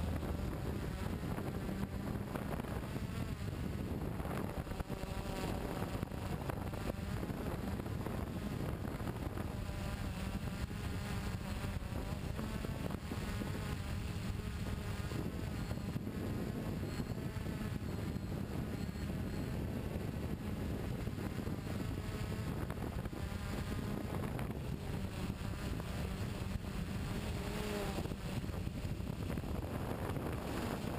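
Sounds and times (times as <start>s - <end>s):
drone motor buzzing: 0.0s - 30.9s
wind on microphone: 0.0s - 30.9s.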